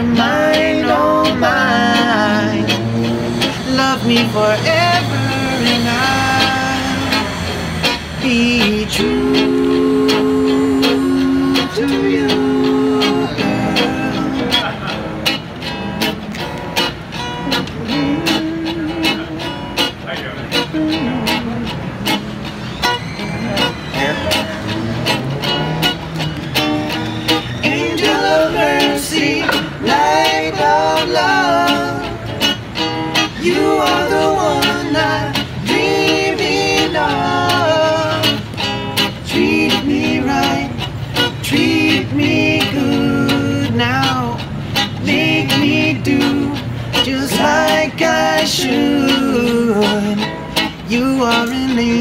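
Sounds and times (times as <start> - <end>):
men singing in harmony: 0.0 - 16.3, 17.4 - 19.8, 20.6 - 25.5, 26.9 - 52.0
guitar strummed: 0.0 - 52.0.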